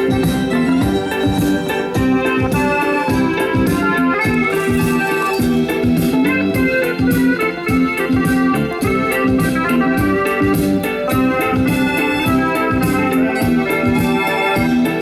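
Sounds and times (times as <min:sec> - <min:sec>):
organ-like keyboard music: 0:00.0 - 0:15.0
steady beat: 0:00.0 - 0:15.0.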